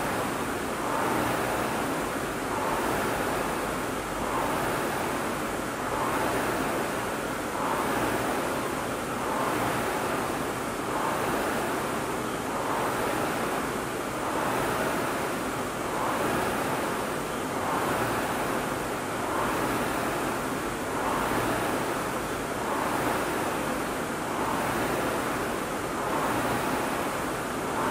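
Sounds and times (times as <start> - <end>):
rowing machine flywheel whooshing: 0.0 - 27.9.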